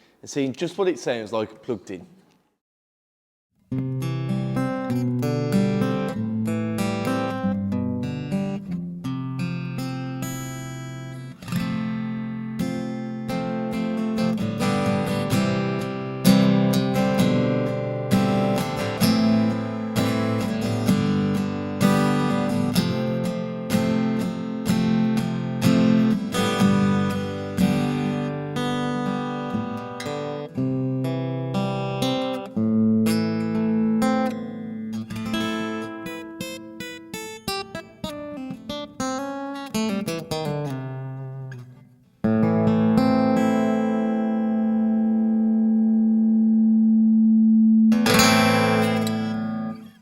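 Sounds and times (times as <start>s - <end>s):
acoustic guitar strummed chords: 3.7s - 50.0s.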